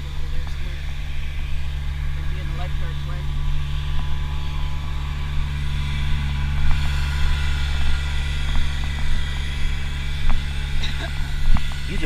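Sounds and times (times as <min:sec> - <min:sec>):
muffled low droning hum: 0:00.0 - 0:12.0.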